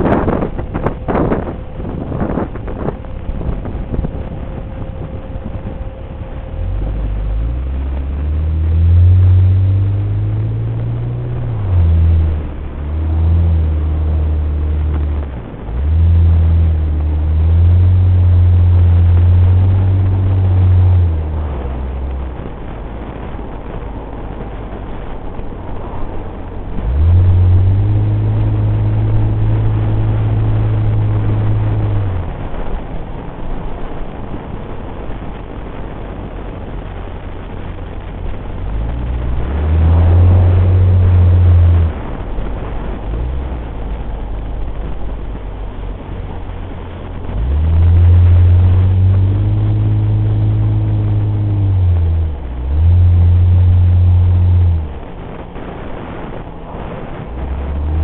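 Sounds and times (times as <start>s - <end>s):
car engine accelerating: 0.0s - 58.0s
road and wind noise: 0.0s - 58.0s.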